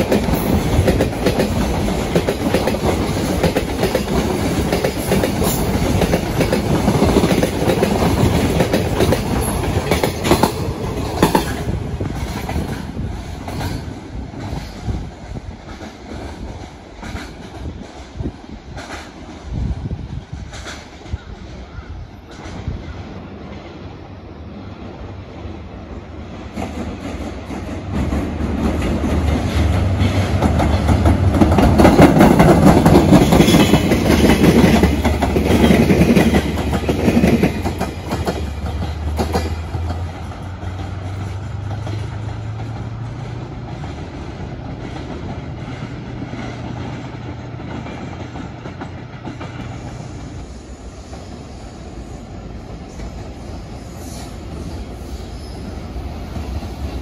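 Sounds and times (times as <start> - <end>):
train wheels clattering over rails: 0.0 - 23.7, 26.2 - 57.0.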